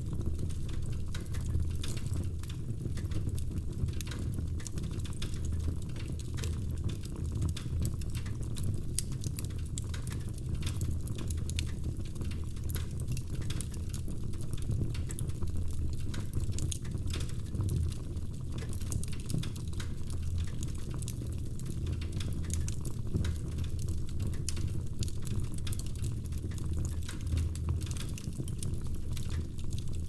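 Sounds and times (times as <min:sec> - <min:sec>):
low fire rumble: 0:00.0 - 0:30.0
wood fire crackling: 0:00.0 - 0:30.0.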